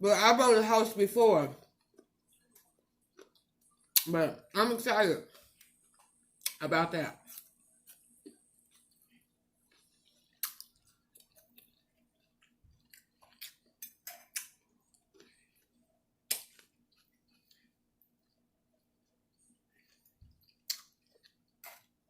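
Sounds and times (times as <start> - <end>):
soft chewing with crunches: 1.5 - 4.1, 5.2 - 6.6, 7.2 - 22.0.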